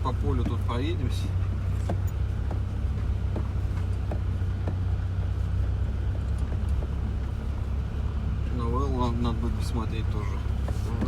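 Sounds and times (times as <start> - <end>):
light knocks and rattles: 0.0 - 11.0
vehicle rumbling inside cabin: 0.0 - 11.0.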